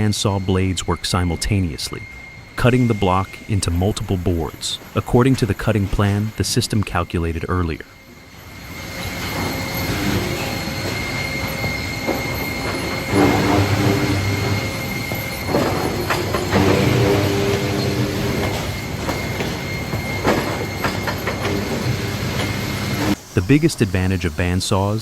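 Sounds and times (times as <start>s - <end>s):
deep droning of wood cutting: 0.0s - 24.6s
bandsaw high whine: 0.0s - 25.0s.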